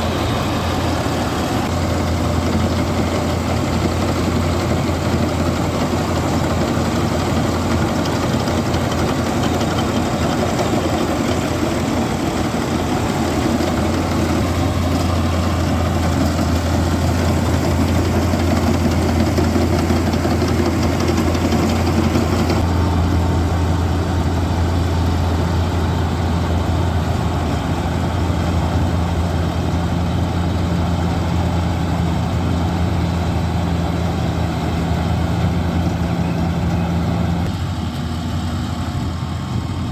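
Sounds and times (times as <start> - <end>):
tractor diesel engine drone: 0.0 - 39.9.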